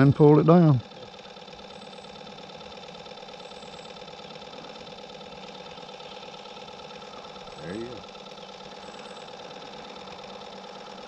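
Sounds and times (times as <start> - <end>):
small motor humming: 0.0 - 11.0.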